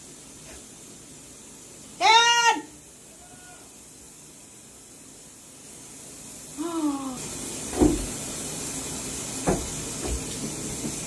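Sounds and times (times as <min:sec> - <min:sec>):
steady water hiss: 0:00.0 - 0:11.0.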